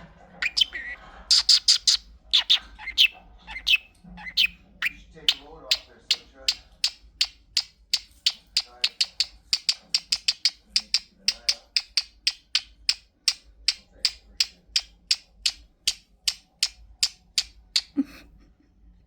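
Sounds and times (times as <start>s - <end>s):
bird chirping: 0.4s - 18.0s.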